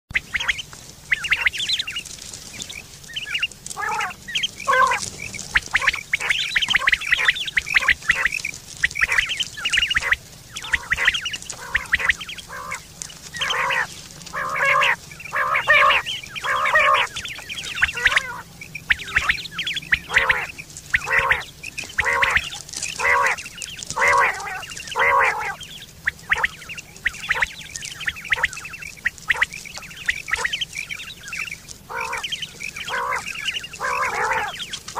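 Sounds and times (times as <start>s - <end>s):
quail calling: 0.1s - 34.9s.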